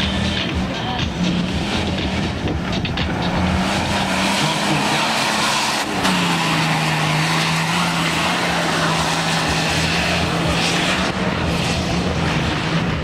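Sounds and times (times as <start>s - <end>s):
race car engine running hard: 0.0s - 13.0s
steady rush of noise: 0.0s - 13.0s.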